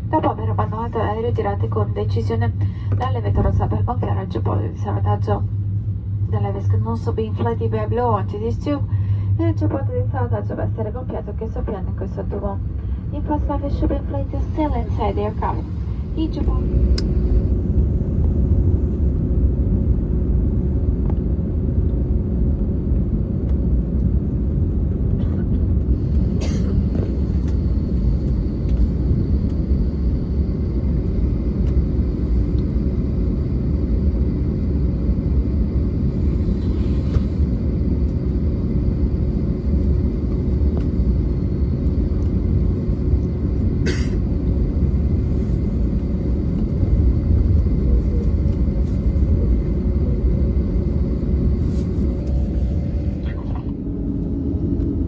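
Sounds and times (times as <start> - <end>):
aircraft cabin rumble: 0.0 - 55.0
faint steady hum: 0.0 - 55.0.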